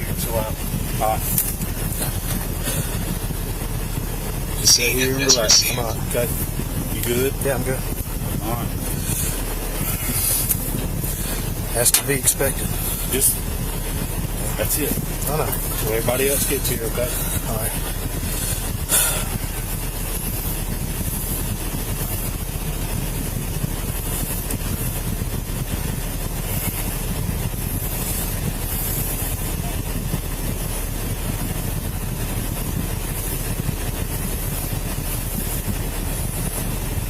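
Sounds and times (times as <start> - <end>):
constant hiss: 0.0 - 37.0.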